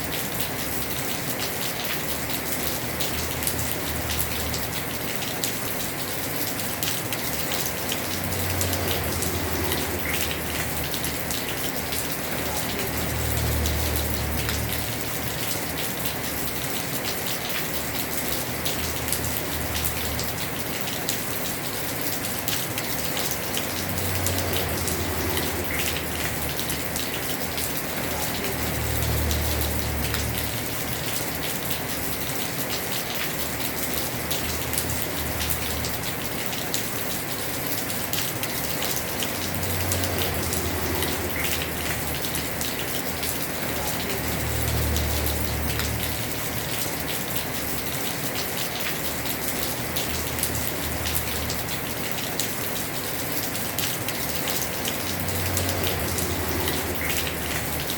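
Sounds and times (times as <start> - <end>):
heavy rain on roof: 0.0 - 57.9.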